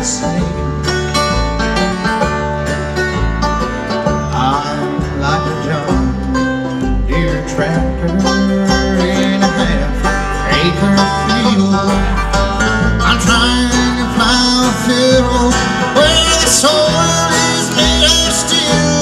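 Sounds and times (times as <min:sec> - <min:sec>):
picked string instruments: 0:00.0 - 0:19.0
stepping bass notes: 0:00.0 - 0:19.0.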